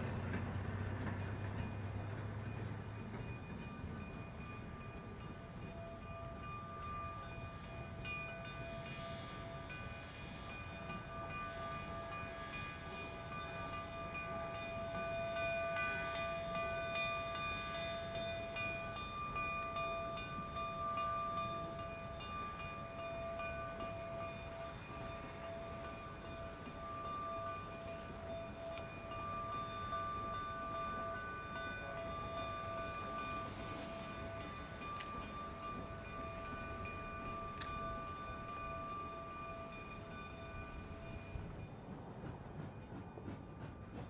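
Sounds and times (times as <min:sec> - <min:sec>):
train cars rumbling on rails: 0:00.0 - 0:44.0.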